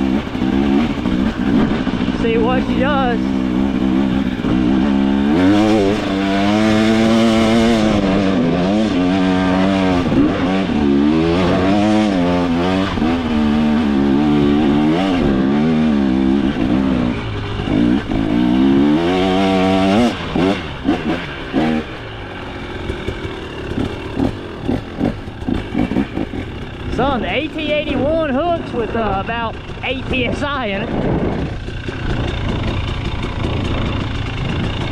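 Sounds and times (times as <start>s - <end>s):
engine knocks and clatter: 0.0s - 34.9s
two-stroke engine revving hard: 0.0s - 34.9s.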